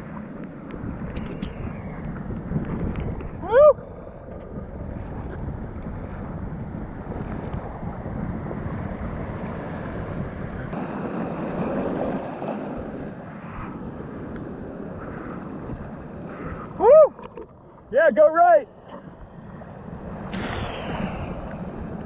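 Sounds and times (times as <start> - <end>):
wind buffeting microphone: 0.0 - 18.0, 18.6 - 22.0
surf rushing and sloshing: 0.0 - 22.0.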